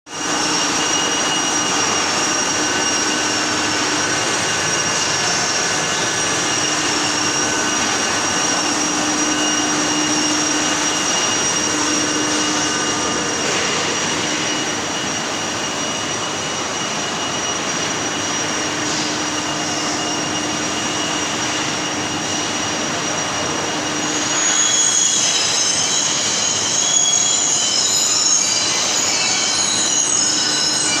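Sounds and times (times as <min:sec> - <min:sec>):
welding machine hissing and whining: 0:00.1 - 0:31.0.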